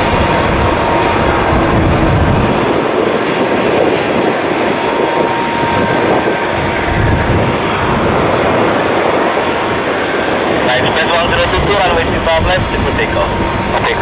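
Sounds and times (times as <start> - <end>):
faint engine whine: 0.0 - 14.0
jet engines roaring: 0.0 - 14.0.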